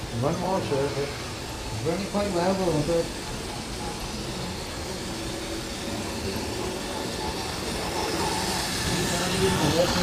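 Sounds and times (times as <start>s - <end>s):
model train running on rails: 0.0s - 10.0s.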